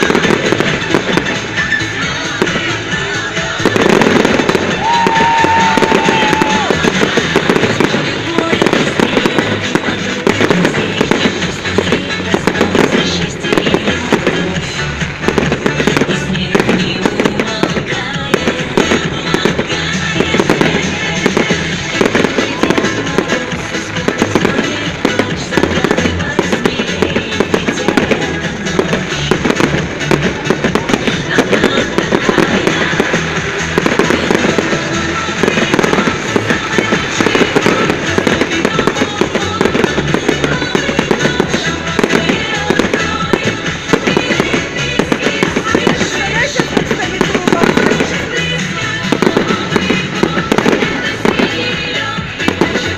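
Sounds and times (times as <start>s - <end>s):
fireworks bangs and crackles: 0.0s - 52.9s
music playing: 0.0s - 52.9s.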